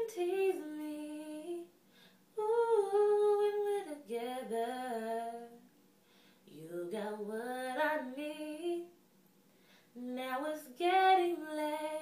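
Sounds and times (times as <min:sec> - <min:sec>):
woman singing a cappella: 0:00.0 - 0:05.8, 0:06.4 - 0:09.0, 0:09.9 - 0:12.0.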